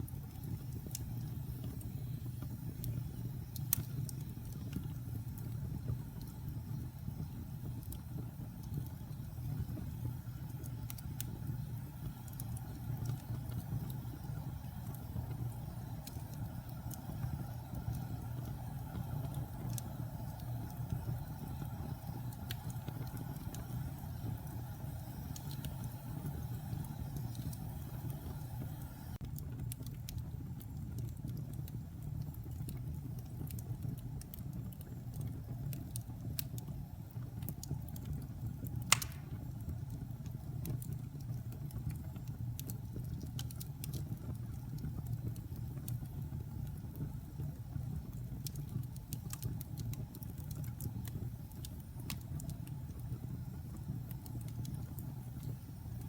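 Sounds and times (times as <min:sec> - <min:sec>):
burning logs crackling: 0:00.0 - 0:56.0
low rumble of flames: 0:00.0 - 0:56.0.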